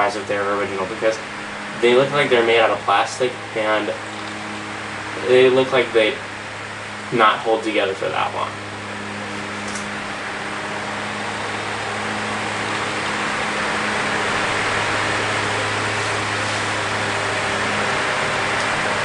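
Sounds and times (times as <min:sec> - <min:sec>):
electric fan motor hum: 0:00.0 - 0:19.0
fan blades rushing air: 0:00.0 - 0:19.0.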